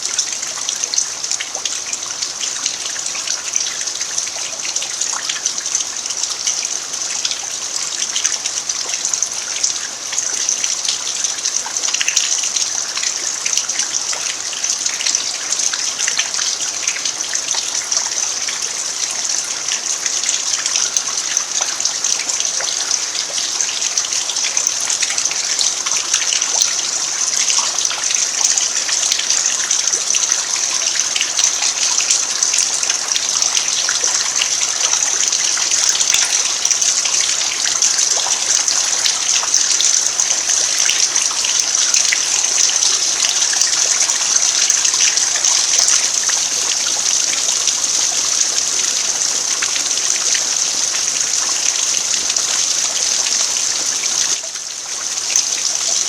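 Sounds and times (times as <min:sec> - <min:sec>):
rain falling on earth: 0:00.0 - 0:56.0.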